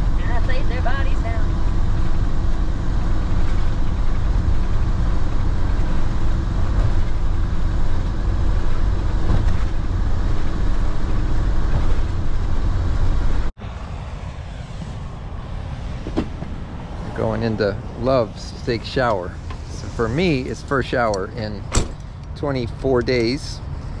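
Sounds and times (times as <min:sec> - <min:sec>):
road and engine rumble in cab: 0:00.0 - 0:24.0.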